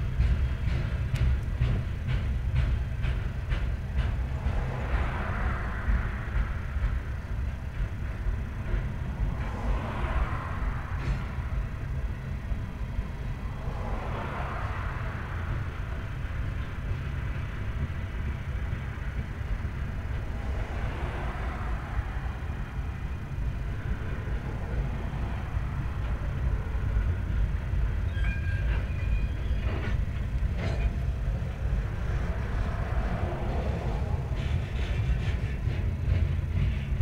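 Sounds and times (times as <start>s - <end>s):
freight cars rolling on rails: 0.0s - 37.0s.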